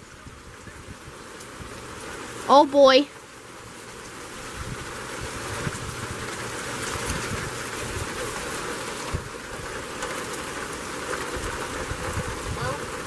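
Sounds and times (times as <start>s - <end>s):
wind buffeting microphone: 0.0s - 2.2s, 4.1s - 13.0s
heavy rain falling: 0.0s - 13.0s.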